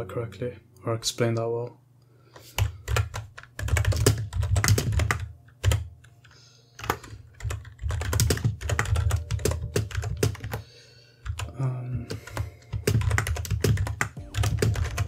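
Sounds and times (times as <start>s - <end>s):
computer keyboard typing: 2.4s - 15.0s.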